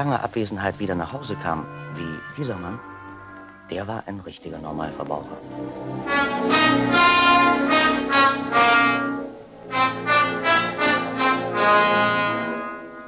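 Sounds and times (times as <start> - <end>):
brass fanfare: 1.2 - 3.7, 4.9 - 13.0.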